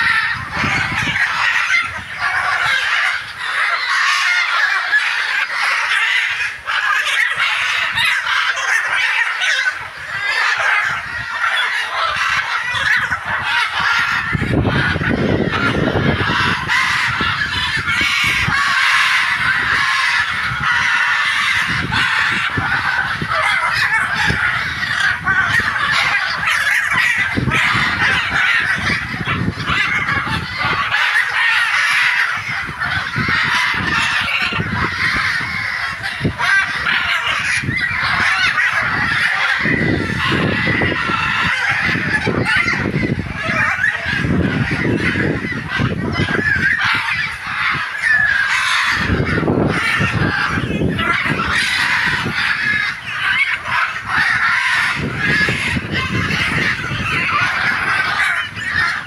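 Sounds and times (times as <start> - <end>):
macaws squawking: 0.0 - 59.0.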